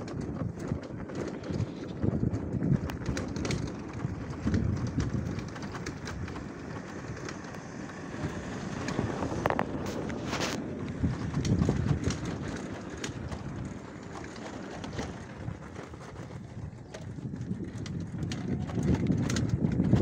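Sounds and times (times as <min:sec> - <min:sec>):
wind across microphone: 0:00.0 - 0:20.0.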